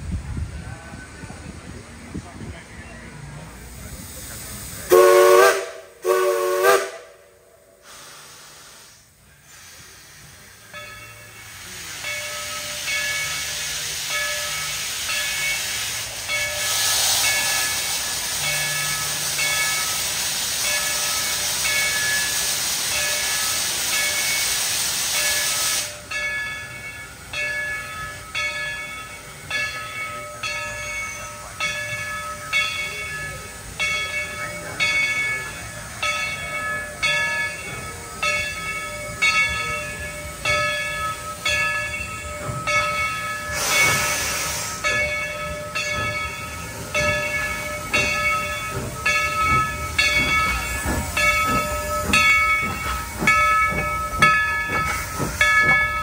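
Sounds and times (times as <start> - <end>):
loud steam hiss: 0.0 - 56.0
locomotive bell ringing: 9.8 - 56.0.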